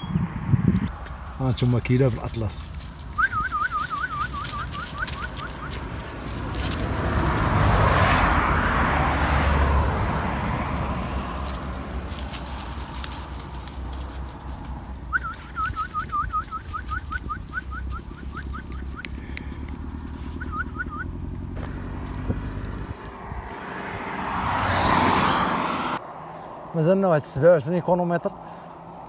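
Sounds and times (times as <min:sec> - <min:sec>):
vehicle passing: 0:00.0 - 0:29.0.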